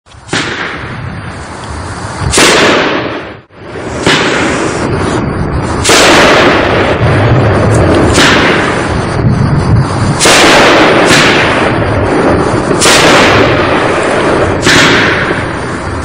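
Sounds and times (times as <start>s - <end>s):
firework bangs: 0.1s - 16.0s
rushing noise of bursting shells: 0.1s - 16.0s.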